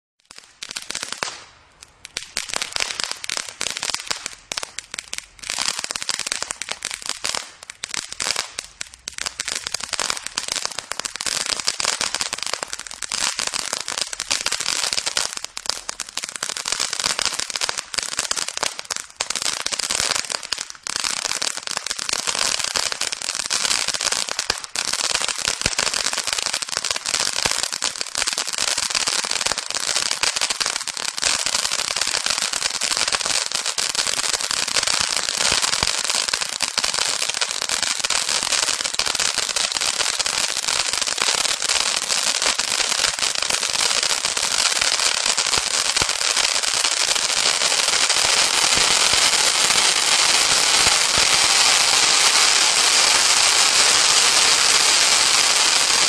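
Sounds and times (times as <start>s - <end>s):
ground fountain firework crackling: 0.2s - 56.0s.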